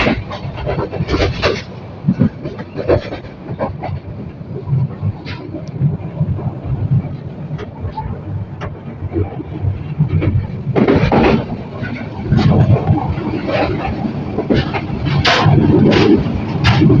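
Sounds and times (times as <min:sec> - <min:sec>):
passenger train rumbling: 0:00.0 - 0:17.0
train clicks and rattles: 0:00.0 - 0:17.0.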